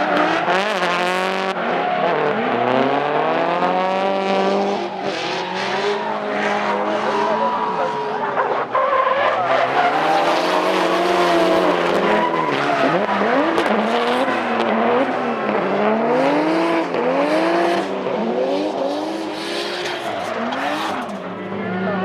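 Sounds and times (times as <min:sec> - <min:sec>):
car engines revving hard: 0:00.0 - 0:22.0
tyres squealing and skidding: 0:00.0 - 0:22.0.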